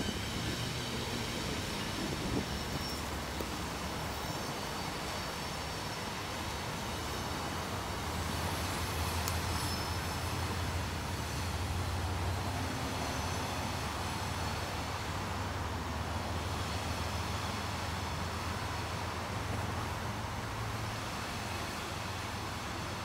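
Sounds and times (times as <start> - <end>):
train wheels rumbling on bridge: 0.0 - 23.0.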